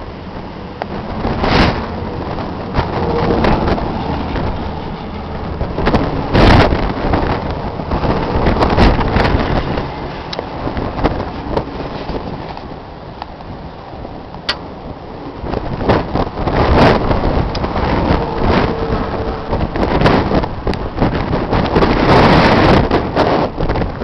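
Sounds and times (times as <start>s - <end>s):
tractor engine idling: 0.0s - 21.3s.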